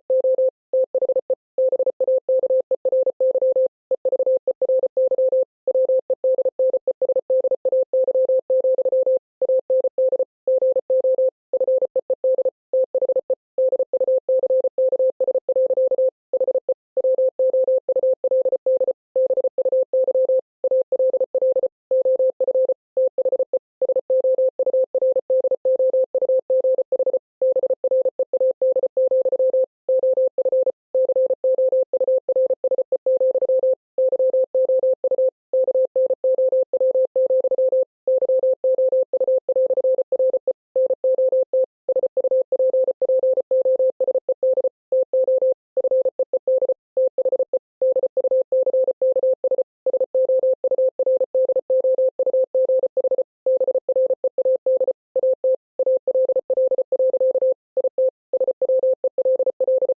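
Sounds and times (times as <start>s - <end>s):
morse code beeps: 0.0s - 59.9s.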